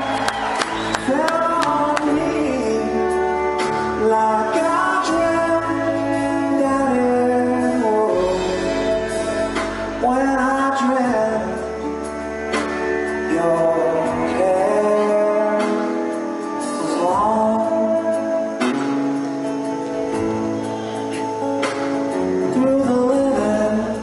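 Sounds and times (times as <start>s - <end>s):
acoustic guitar: 0.0s - 24.0s
man singing: 1.0s - 12.4s, 13.1s - 19.2s, 22.1s - 24.0s.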